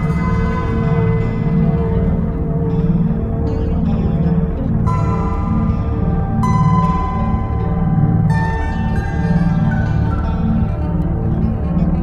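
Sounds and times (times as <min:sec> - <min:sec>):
low ambient drone: 0:00.0 - 0:12.0.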